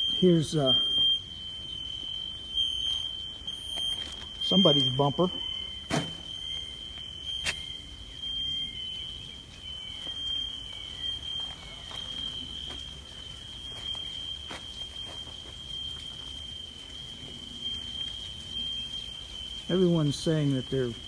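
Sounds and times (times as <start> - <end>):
fire alarm high-pitched tone: 0.0 - 21.0.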